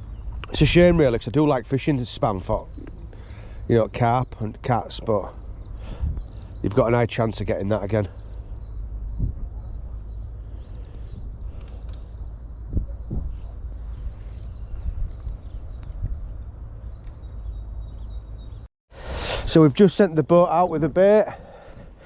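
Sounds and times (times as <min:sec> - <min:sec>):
wind rumble on microphone: 0:00.0 - 0:18.6
small birds chirping: 0:00.0 - 0:22.0.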